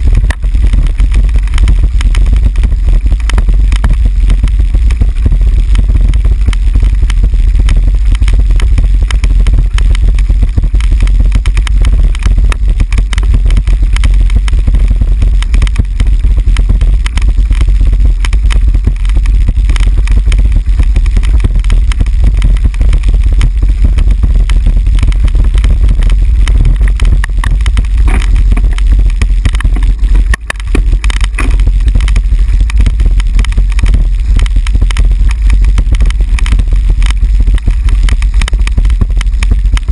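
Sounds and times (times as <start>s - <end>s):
camera rattling over cobblestones: 0.0s - 39.9s.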